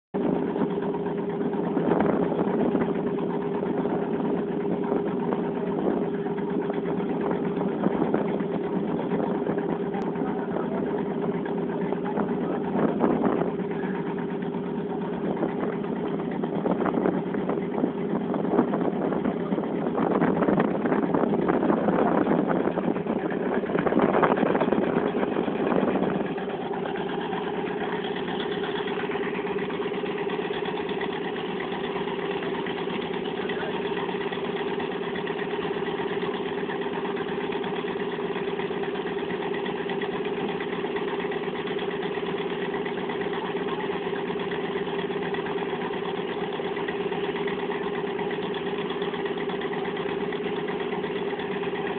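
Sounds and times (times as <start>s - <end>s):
boat engine humming: 0.1s - 51.9s.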